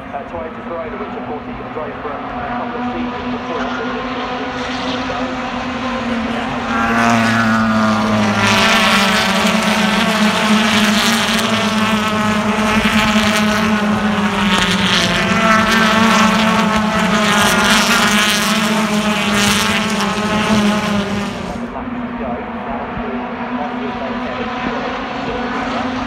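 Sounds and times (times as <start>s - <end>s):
racing car engines passing: 0.0s - 26.0s.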